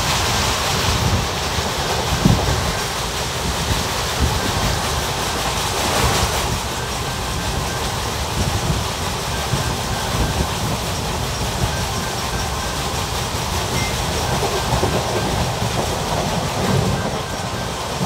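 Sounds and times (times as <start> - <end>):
train wheels rumbling on rails: 0.0 - 18.0
wheel clacks: 1.8 - 18.0.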